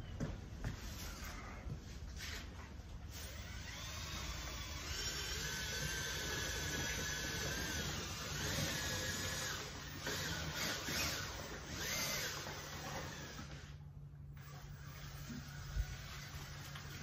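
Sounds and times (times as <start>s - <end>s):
power drill motor whine: 3.1s - 17.0s.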